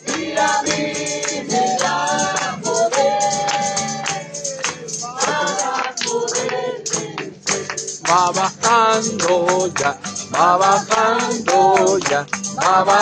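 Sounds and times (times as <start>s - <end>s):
group singing worship chorus: 0.0s - 13.0s
tambourine struck rhythmically: 0.0s - 13.0s.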